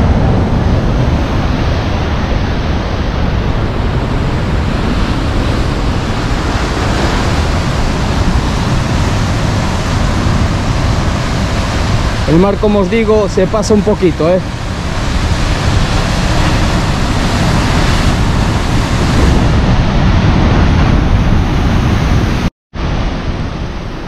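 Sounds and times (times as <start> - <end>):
rough sea waves: 0.0 - 24.0
wind buffeting microphone: 0.0 - 24.0.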